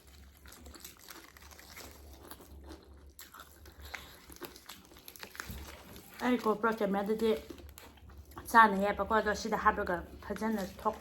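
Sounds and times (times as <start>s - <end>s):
crunchy food chewing: 0.0s - 11.0s.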